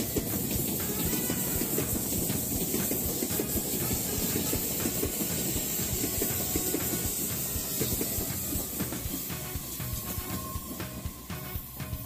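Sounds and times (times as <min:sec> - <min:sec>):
electric train running on track: 0:00.0 - 0:12.0
hiss: 0:00.0 - 0:12.0.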